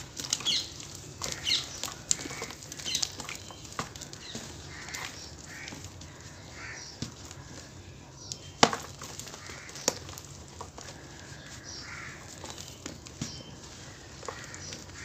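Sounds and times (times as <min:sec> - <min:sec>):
gritty crumbling and dripping: 0:00.0 - 0:15.0.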